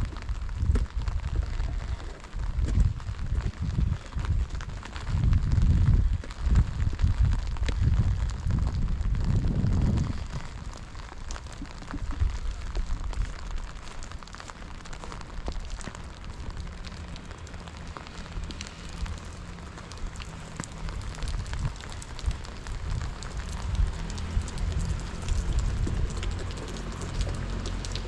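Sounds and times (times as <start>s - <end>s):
rain falling on wet paving: 0.0s - 28.0s
wind buffeting microphone: 0.0s - 28.0s.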